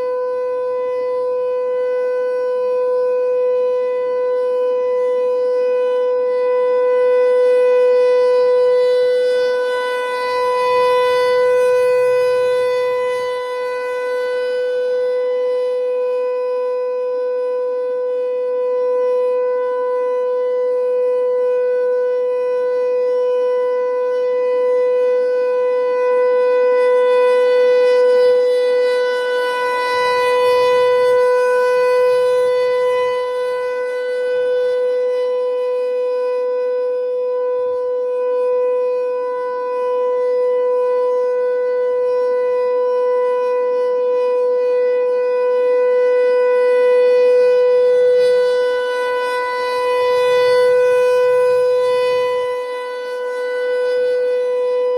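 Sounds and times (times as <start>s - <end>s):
rotating warning siren: 0.0s - 54.9s.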